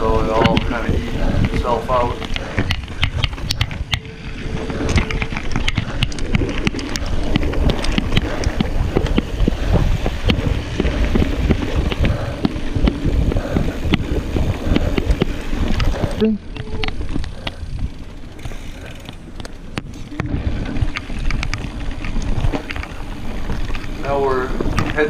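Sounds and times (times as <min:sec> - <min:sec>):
wind on microphone: 0:00.0 - 0:19.1, 0:19.7 - 0:25.0
bike rattling and clicking: 0:00.0 - 0:25.0
tyres rumbling on dirt: 0:00.0 - 0:25.0.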